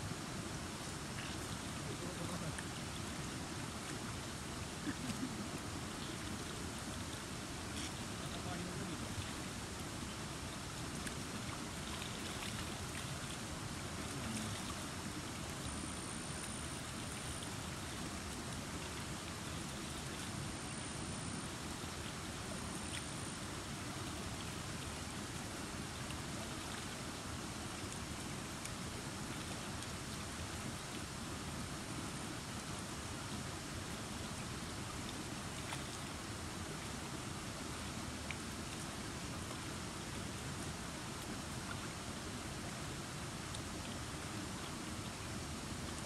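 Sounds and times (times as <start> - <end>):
stream flowing: 0.0 - 46.0.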